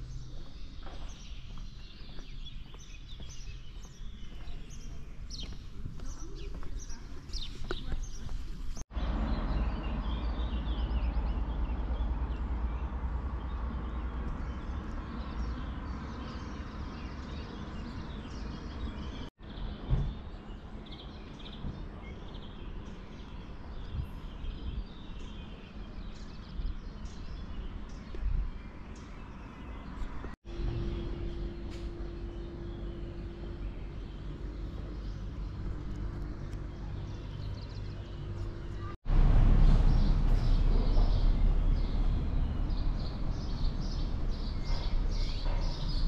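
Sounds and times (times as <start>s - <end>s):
small birds chirping: 0.0s - 39.0s, 39.7s - 46.0s.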